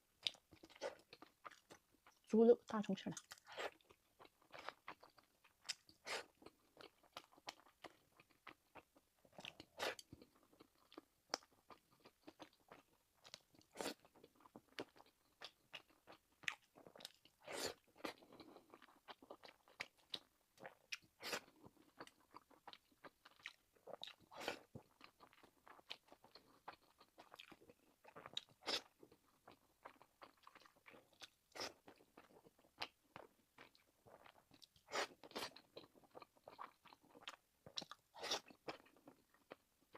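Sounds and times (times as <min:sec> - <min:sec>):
chewing and biting: 0:00.2 - 0:02.2, 0:03.2 - 0:39.9.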